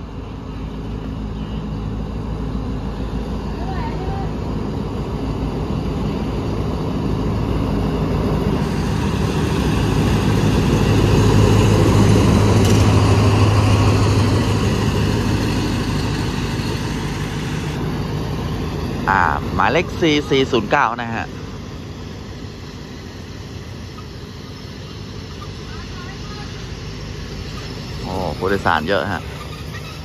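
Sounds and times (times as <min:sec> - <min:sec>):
diesel locomotive engine drone: 0:00.0 - 0:30.0
train coaches rolling past: 0:00.0 - 0:30.0.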